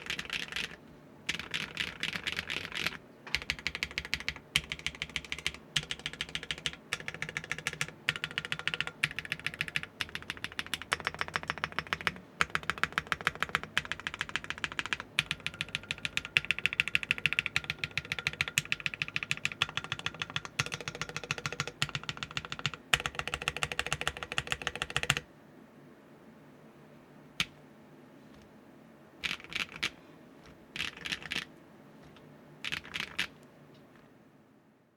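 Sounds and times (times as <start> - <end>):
mechanical keyboard typing: 0.0 - 25.2, 29.2 - 33.4.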